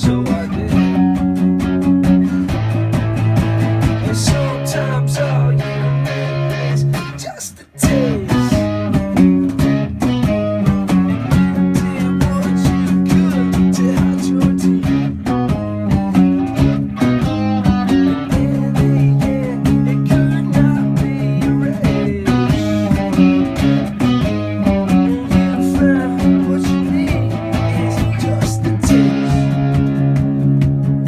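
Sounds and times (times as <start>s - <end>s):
bending lead guitar notes: 0.0s - 31.0s
live rock band playing: 0.0s - 31.0s.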